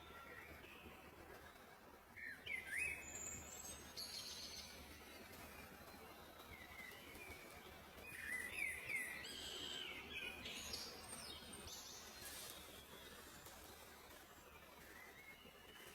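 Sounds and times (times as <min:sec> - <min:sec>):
faint outdoor hiss: 0:00.0 - 0:15.9.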